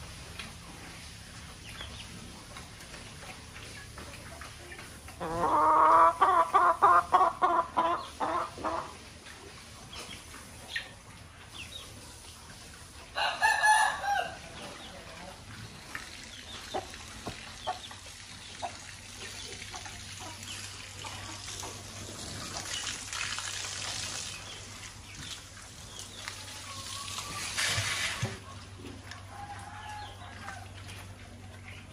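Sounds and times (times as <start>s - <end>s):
hen clucking: 1.6s - 23.0s, 24.2s - 31.9s.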